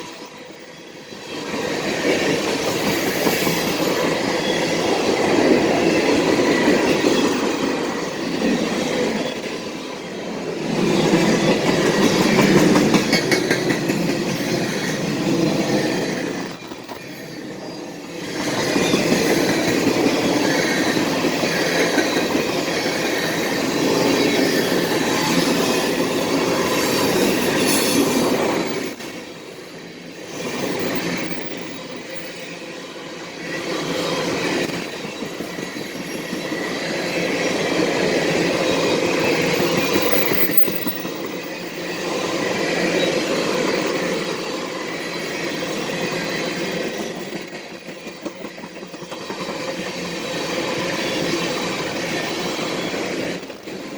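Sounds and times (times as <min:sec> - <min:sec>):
freight train cars rumbling past: 0:00.1 - 0:53.9.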